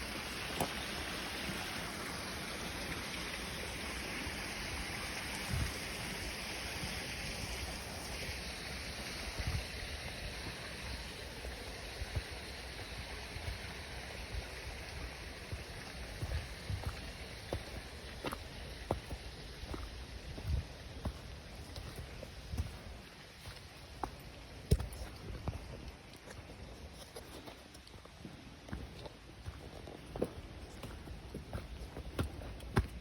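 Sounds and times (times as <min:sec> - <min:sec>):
running water rushing: 0:00.0 - 0:33.0.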